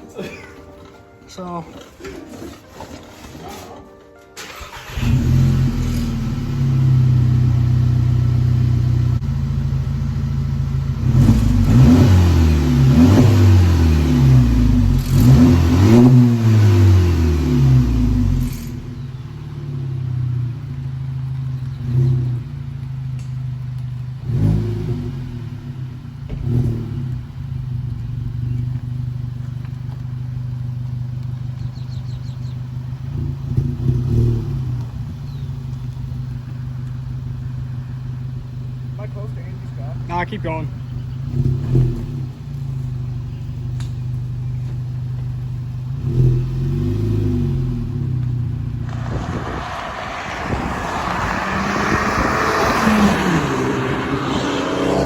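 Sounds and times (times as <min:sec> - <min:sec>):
car engine idling and revving: 0:04.4 - 0:55.0.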